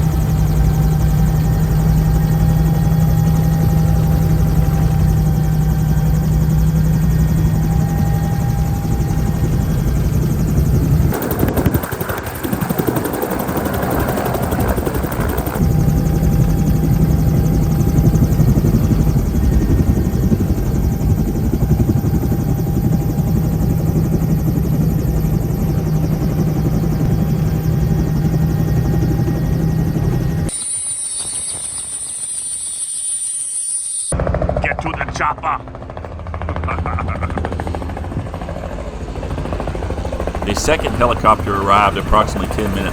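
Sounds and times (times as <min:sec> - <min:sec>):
helicopter cabin rotor and turbine hum: 0:00.0 - 0:33.0, 0:33.8 - 0:42.9.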